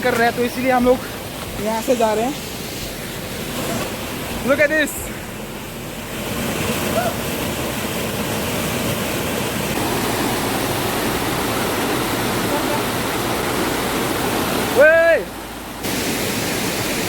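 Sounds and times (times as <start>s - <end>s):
water cascade rushing: 0.0s - 17.0s.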